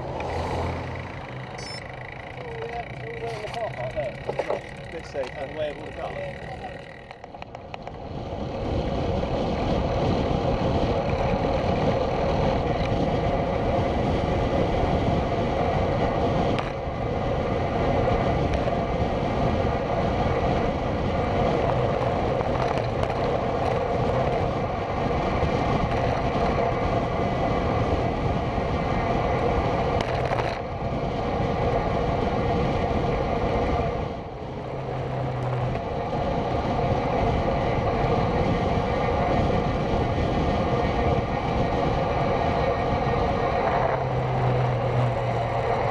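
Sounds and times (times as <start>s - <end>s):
bike tyres rolling on tarmac: 0.0s - 45.9s
wind rushing over microphone: 0.0s - 45.9s.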